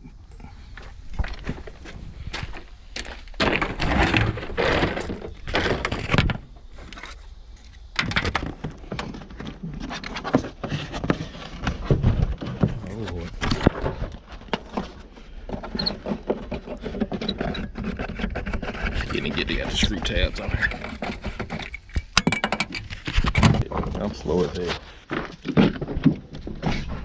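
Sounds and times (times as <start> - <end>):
hand tools and car parts clattering: 0.8 - 27.0.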